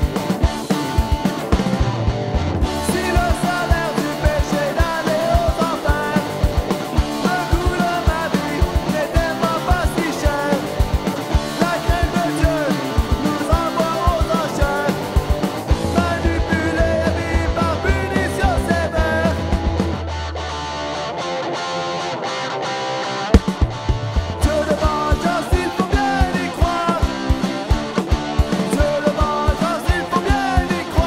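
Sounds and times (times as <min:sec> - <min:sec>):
punk rock band playing: 0:00.0 - 0:31.0.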